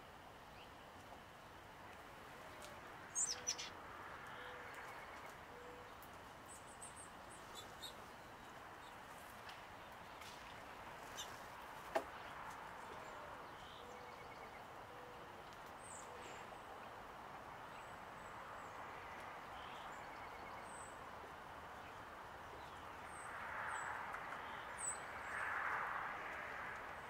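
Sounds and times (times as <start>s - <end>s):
outdoor background hiss: 0.0s - 27.0s
songbird chirps: 0.3s - 25.4s.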